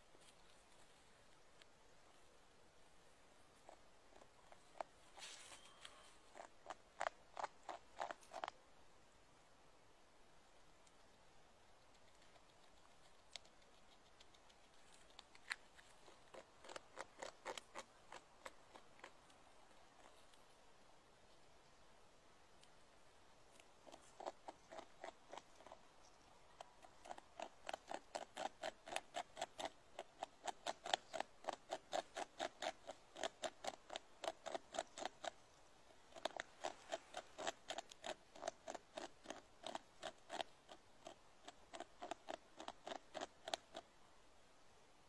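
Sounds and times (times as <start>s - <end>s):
beaver gnawing wood: 0.0s - 8.6s, 10.8s - 20.6s, 22.5s - 44.0s.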